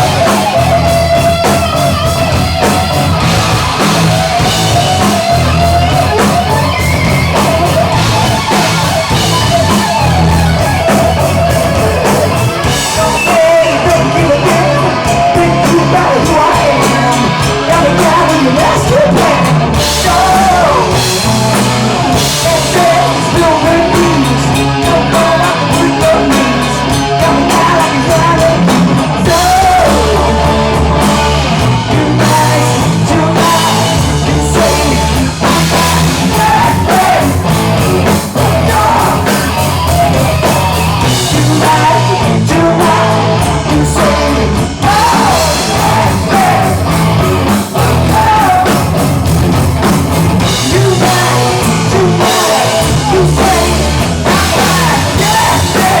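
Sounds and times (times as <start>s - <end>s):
bass guitar: 0.0s - 56.0s
drum kit: 0.0s - 56.0s
electric guitar: 0.0s - 56.0s
person singing: 3.6s - 49.2s, 50.4s - 56.0s.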